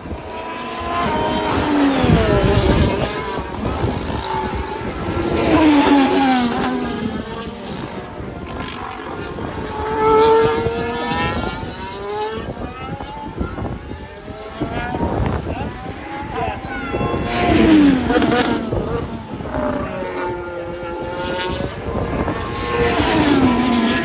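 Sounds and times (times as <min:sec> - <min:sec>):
racing cars passing at speed: 0:00.0 - 0:24.0.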